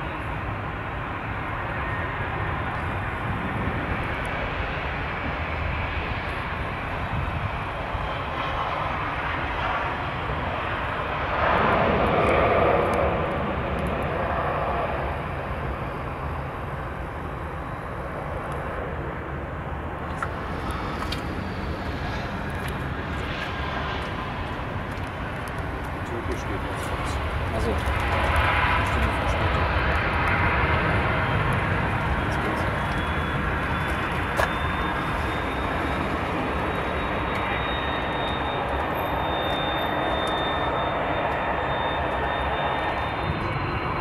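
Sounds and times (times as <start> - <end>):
jet engine rumble: 0.0 - 44.0.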